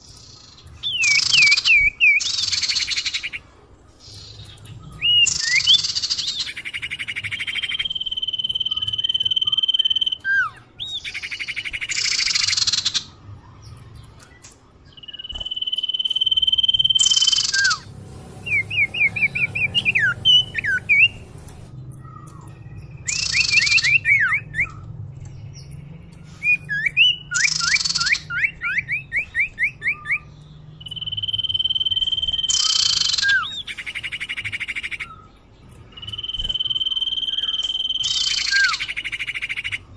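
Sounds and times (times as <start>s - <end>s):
harsh rasping bird calls: 0.0s - 39.9s
bird whistling song: 0.8s - 3.4s, 4.1s - 13.1s, 14.2s - 24.8s, 25.4s - 39.9s.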